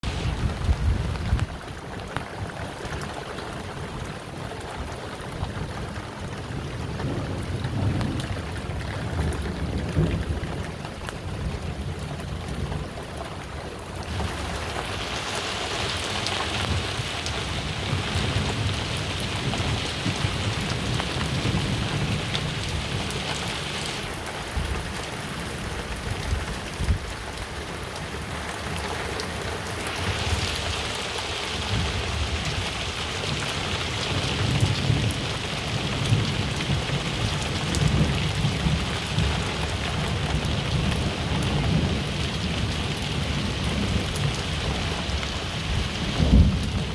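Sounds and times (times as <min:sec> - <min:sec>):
heavy rain falling: 0:00.0 - 0:46.9
low rumble of thunder: 0:00.1 - 0:03.0, 0:05.2 - 0:15.0, 0:16.5 - 0:28.9, 0:29.6 - 0:46.9.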